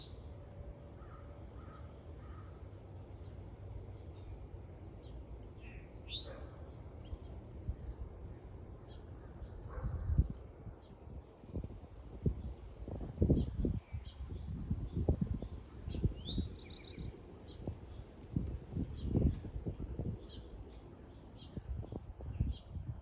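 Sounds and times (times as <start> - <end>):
sparrows chirping: 0.0 - 23.0.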